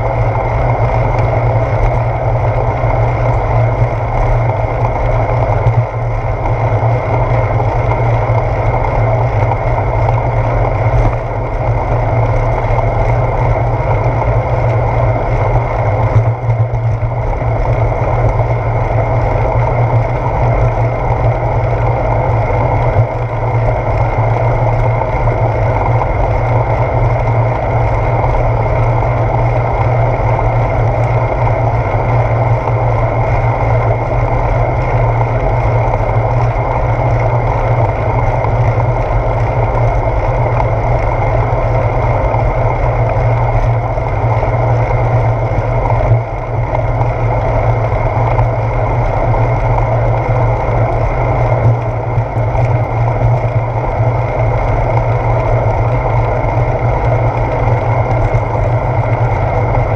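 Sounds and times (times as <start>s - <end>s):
bicycle tyre road rumble: 0.0s - 59.9s
wind: 0.0s - 59.9s.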